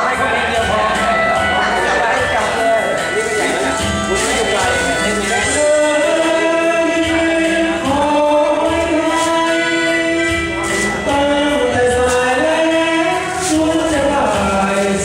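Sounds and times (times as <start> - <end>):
musical accompaniment: 0.0 - 15.0
person singing long notes: 2.8 - 15.0.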